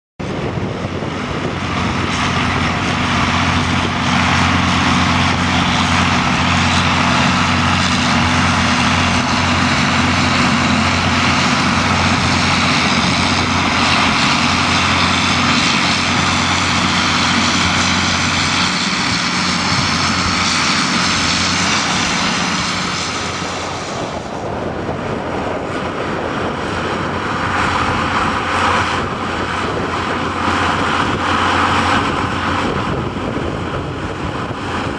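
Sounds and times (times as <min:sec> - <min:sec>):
tractor diesel engine under load: 0:00.2 - 0:34.9.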